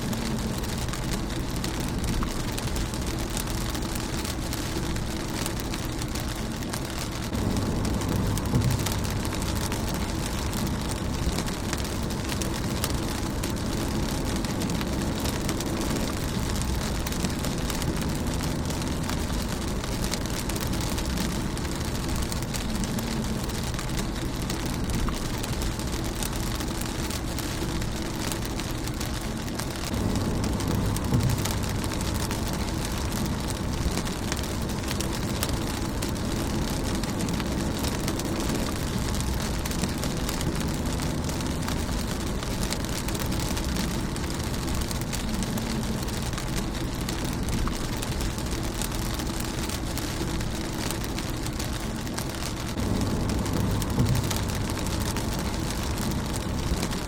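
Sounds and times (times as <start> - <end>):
low rumble: 0.0 - 57.0
rain on a car: 0.0 - 57.0.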